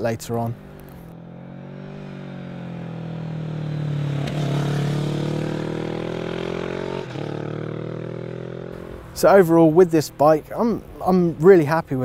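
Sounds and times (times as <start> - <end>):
motorcycle engine passing: 0.4 - 10.6.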